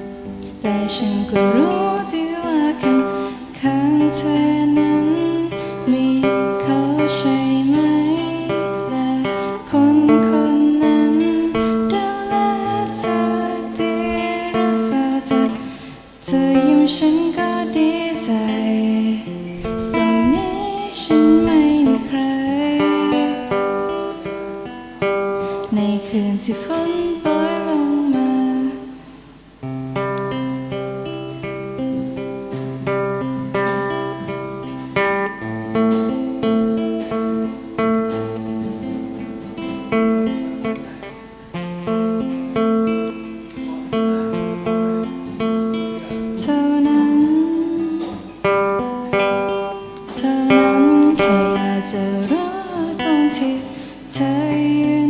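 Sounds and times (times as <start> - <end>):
guitar instrumental: 0.0 - 55.0.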